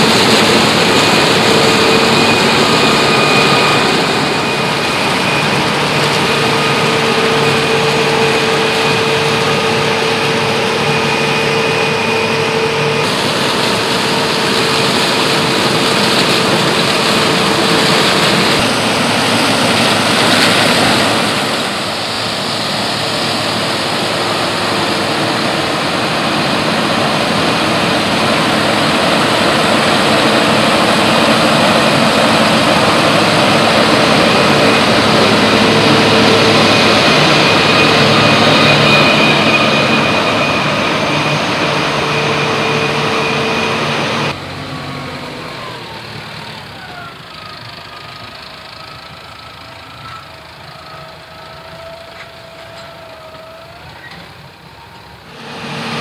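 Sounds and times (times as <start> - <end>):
combine harvester running: 0.0 - 56.0
steady machinery whine: 0.0 - 56.0.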